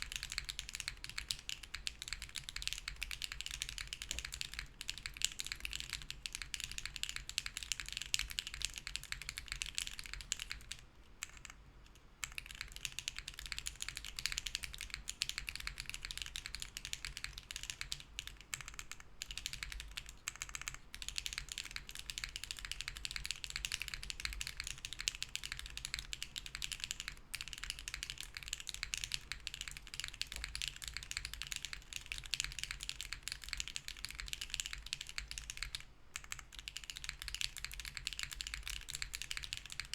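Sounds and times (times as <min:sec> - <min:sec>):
fast typing on mechanical keyboard: 0:00.0 - 0:11.6, 0:12.2 - 0:39.9.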